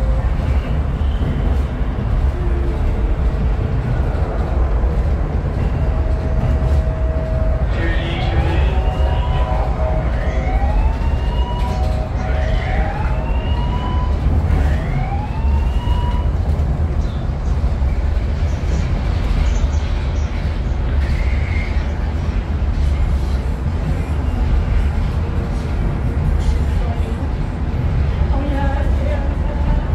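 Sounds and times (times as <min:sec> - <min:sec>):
funicular car rumbling: 0:00.0 - 0:29.9.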